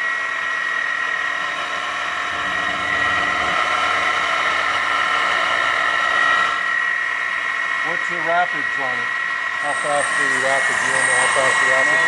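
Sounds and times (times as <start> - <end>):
lathe machine whine: 0.0 - 12.0.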